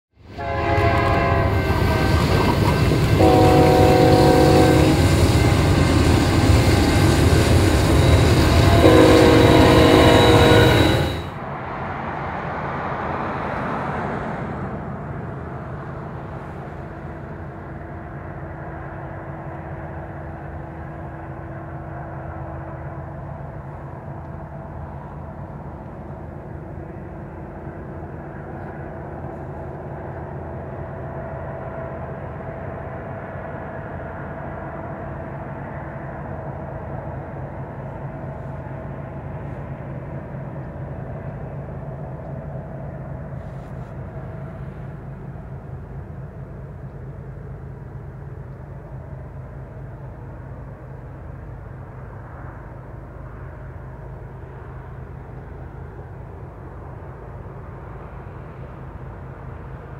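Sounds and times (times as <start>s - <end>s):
diesel locomotive engines droning: 0.2s - 59.9s.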